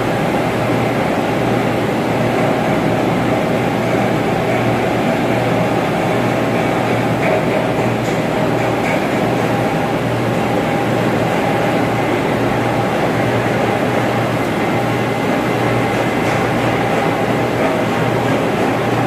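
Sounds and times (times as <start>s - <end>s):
ventilation machinery drone: 0.0s - 19.0s.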